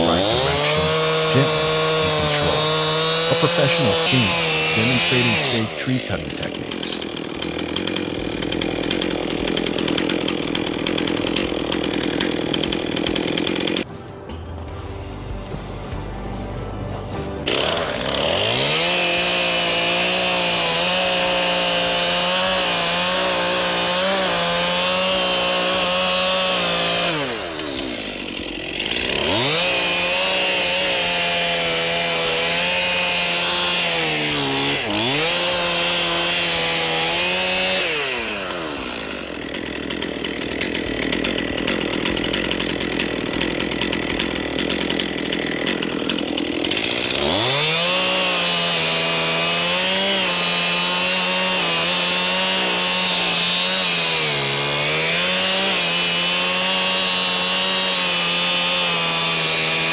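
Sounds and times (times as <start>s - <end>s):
chainsaw cutting tree trunk: 0.0s - 14.3s, 17.0s - 59.9s.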